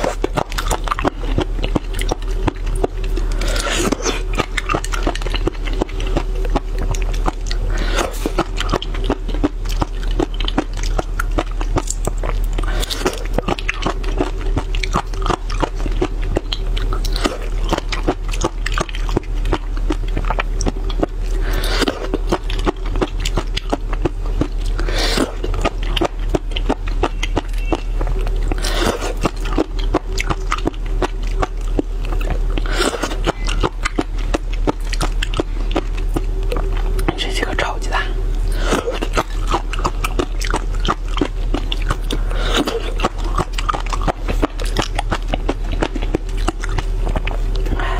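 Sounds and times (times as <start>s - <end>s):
chewing snails with cracking shells: 0.0s - 47.9s.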